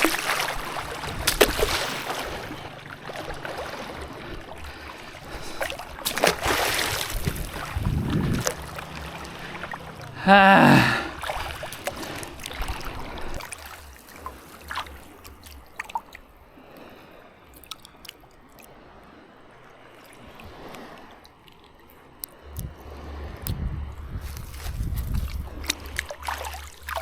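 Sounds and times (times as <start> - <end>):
water sloshing and trickling: 0.0 - 27.0.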